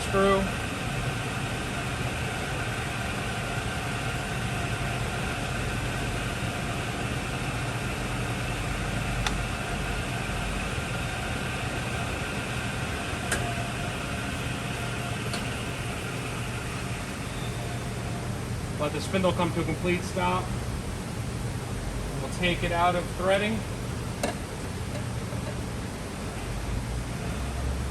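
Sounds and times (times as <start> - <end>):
lathe machine hum: 0.0 - 27.9.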